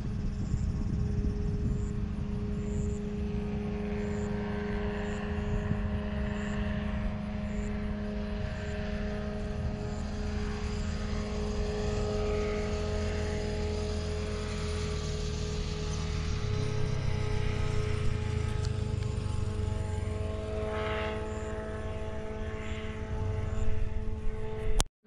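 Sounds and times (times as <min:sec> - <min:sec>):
propeller aircraft engine drone: 0:00.0 - 0:24.9.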